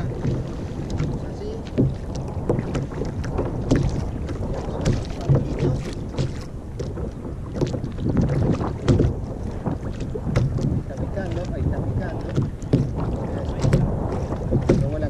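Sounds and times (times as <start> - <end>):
small waves slapping kayak hull: 0.0 - 15.0
wind buffeting microphone: 0.0 - 15.0.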